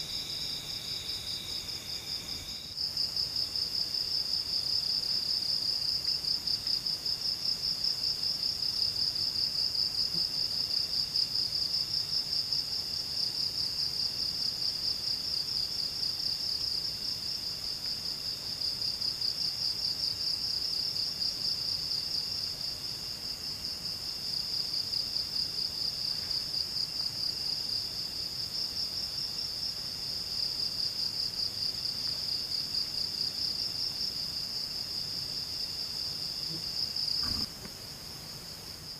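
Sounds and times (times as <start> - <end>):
high continuous insect trill: 0.0 - 38.9
lower insect trill: 0.0 - 38.9.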